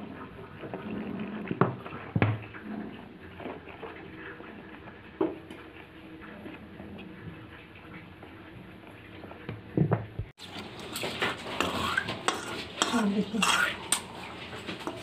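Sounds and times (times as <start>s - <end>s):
spoon stirring thick batter: 0.0s - 15.0s.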